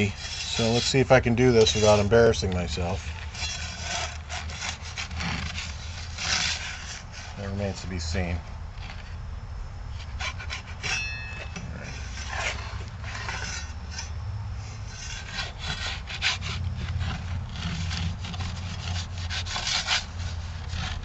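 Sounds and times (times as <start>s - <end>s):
metal peel scraping wooden board: 0.0s - 9.2s, 9.9s - 21.0s.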